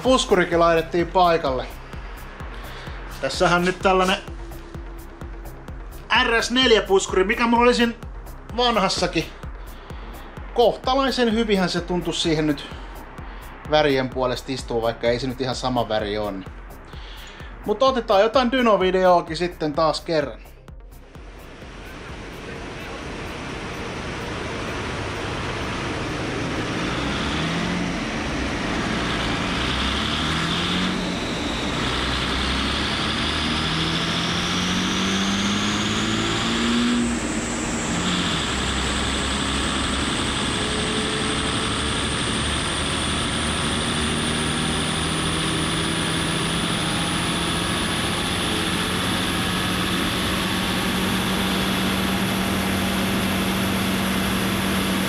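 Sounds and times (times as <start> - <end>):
loud rushing noise: 0.0 - 18.0, 20.9 - 55.0
diesel engine on dyno: 0.0 - 55.0
rising whine: 0.0 - 55.0.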